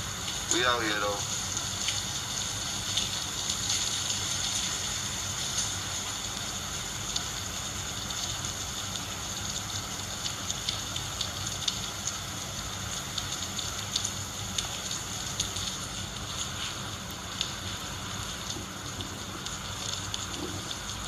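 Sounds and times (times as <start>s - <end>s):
heavy rain hissing: 0.0s - 21.0s
raindrops ticking on surfaces: 0.0s - 21.0s.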